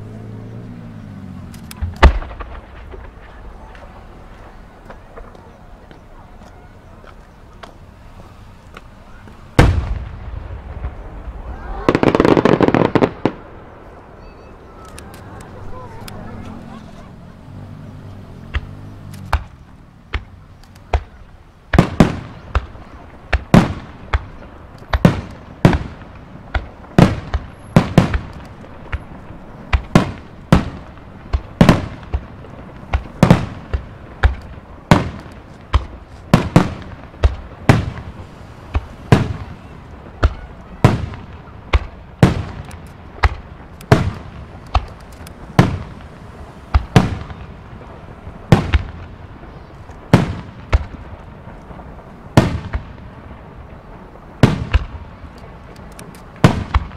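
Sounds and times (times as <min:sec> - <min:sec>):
firework shells bursting: 0:01.5 - 0:06.0, 0:08.5 - 0:16.4, 0:18.4 - 0:53.2.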